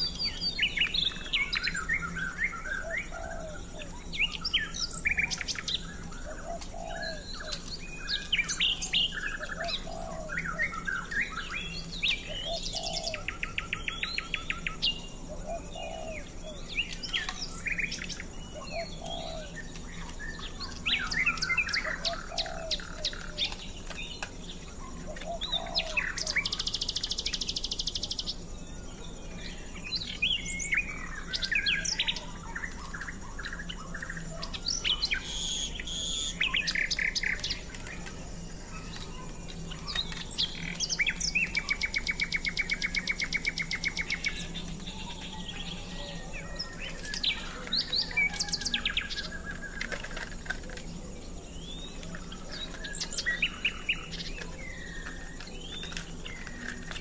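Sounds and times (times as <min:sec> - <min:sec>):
bird trill: 0:00.0 - 0:57.0
small birds chirping: 0:00.0 - 0:57.0.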